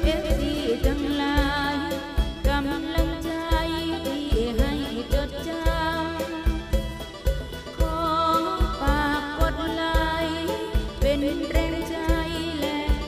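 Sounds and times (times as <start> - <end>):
melody with singing voice: 0.0 - 13.0
steady thumping beat: 0.0 - 13.0.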